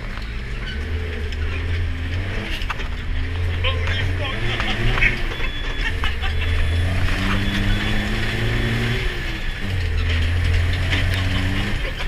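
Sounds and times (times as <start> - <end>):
constant rushing noise: 0.0 - 12.0
truck diesel engine droning: 0.0 - 12.0.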